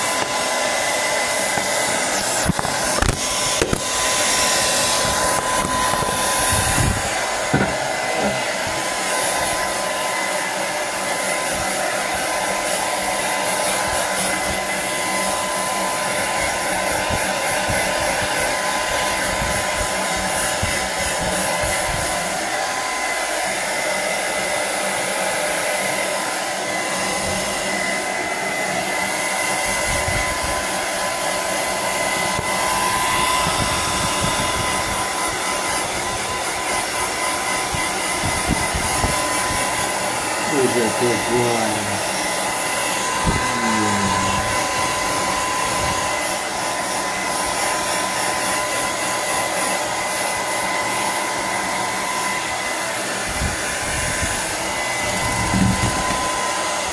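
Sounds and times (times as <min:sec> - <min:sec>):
hair dryer blowing: 0:00.0 - 0:56.9.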